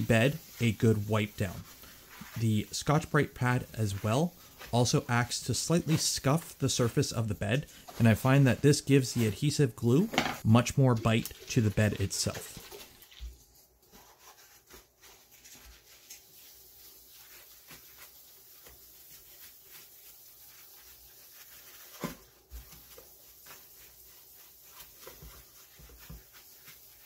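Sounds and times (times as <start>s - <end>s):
paper towel rubbing on metal: 0.0s - 27.0s.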